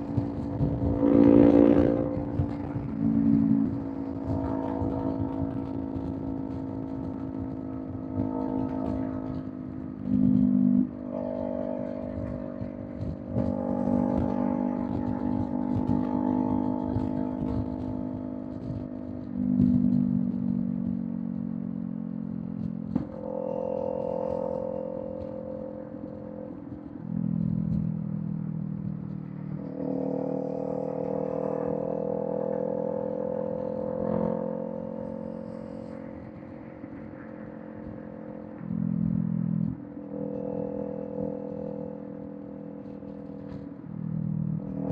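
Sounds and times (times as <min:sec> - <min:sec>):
motorcycle engine at speed: 0:00.0 - 0:44.9.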